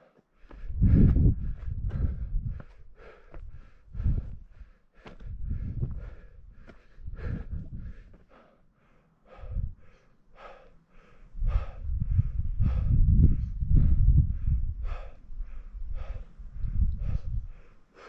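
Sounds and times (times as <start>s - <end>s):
heavy quick breathing: 0.0s - 18.0s
wind buffeting microphone: 0.6s - 8.2s, 9.3s - 9.9s, 11.3s - 17.7s.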